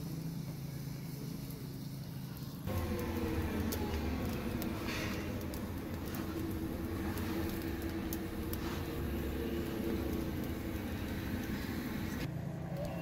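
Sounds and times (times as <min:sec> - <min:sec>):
wood fire crackling: 0:00.0 - 0:13.0
steady low rumble: 0:00.3 - 0:12.9.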